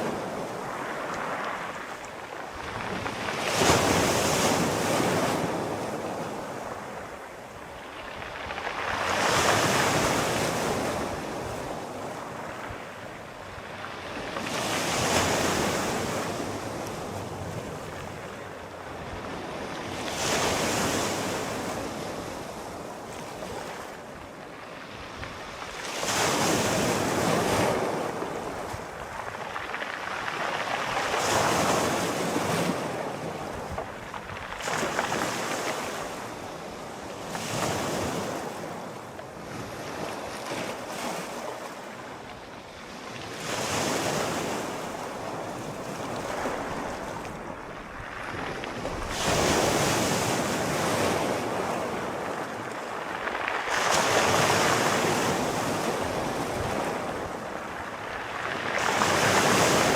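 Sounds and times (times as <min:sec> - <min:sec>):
sea waves breaking: 0:00.0 - 0:59.9.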